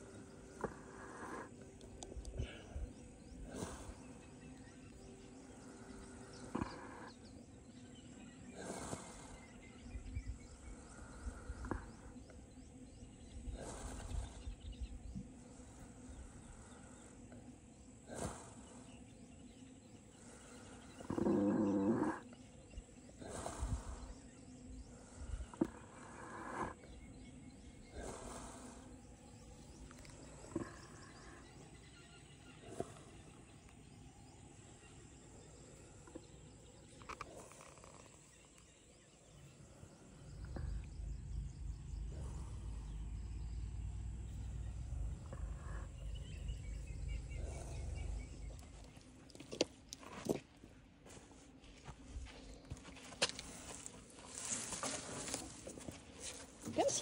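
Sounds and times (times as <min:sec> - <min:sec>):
low elephant snore: 0:00.0 - 0:49.7
baby elephant breathing: 0:00.0 - 0:50.1.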